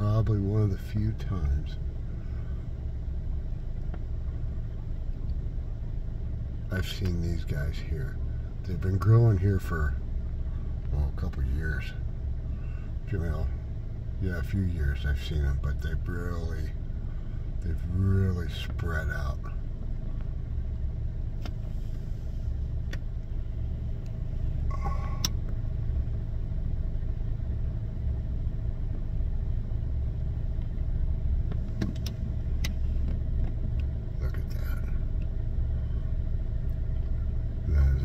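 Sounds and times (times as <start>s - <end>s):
car engine idling: 0.0s - 38.0s
faint steady hum: 0.0s - 38.0s.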